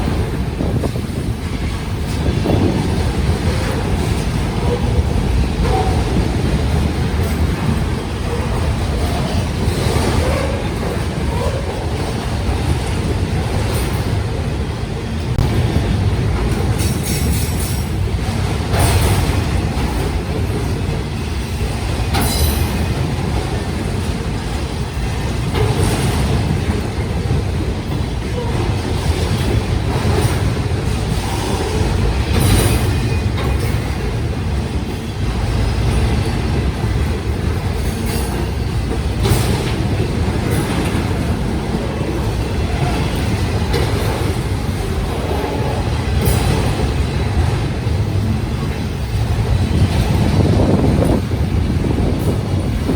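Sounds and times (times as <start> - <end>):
steel wheels rumbling on rail: 0.0 - 52.9.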